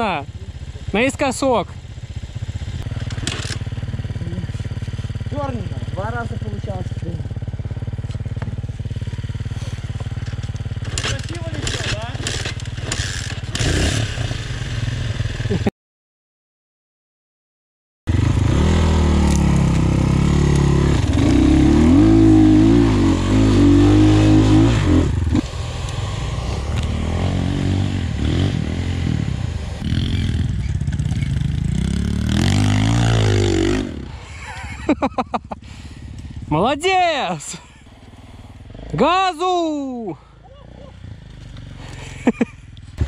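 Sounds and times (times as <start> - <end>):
dirt bike engine revving: 0.0 - 15.7, 18.1 - 39.1.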